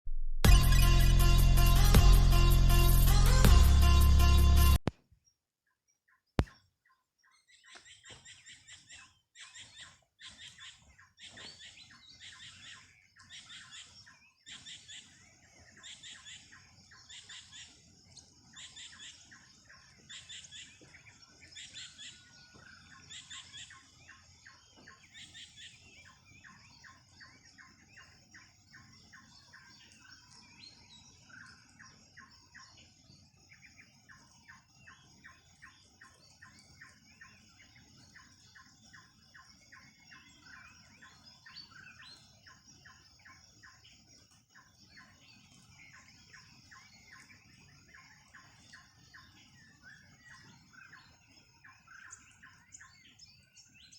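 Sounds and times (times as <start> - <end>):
birds singing: 5.2 - 53.9.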